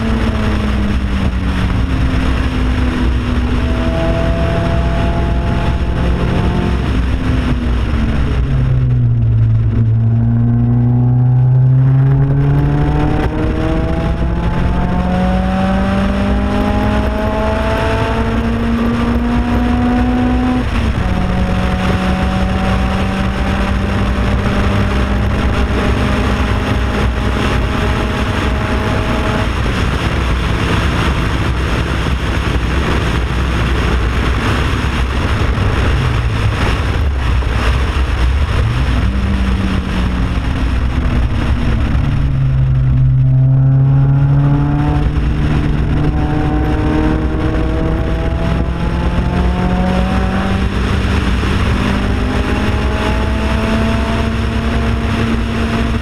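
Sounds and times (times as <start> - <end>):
race car engine: 0.0 - 56.0
wind rushing over microphone: 0.0 - 56.0.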